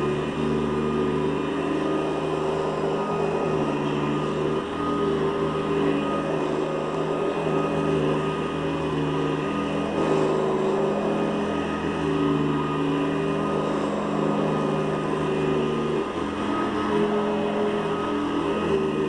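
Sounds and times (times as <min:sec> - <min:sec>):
upright vacuum cleaner on carpet: 0:00.0 - 0:19.0.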